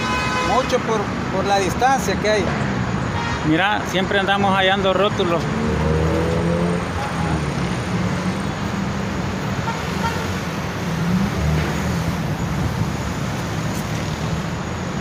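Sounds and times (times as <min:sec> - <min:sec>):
busy road traffic: 0:00.0 - 0:15.0.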